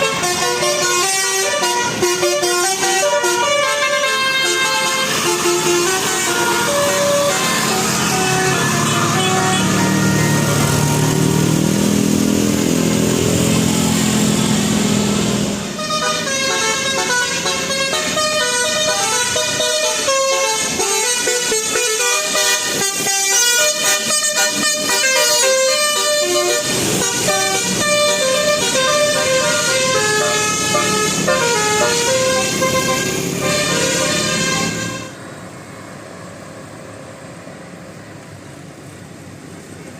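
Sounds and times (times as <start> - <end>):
bus horn melody: 0.0 - 13.0, 15.6 - 35.3
low dense horn and engine: 0.0 - 37.3.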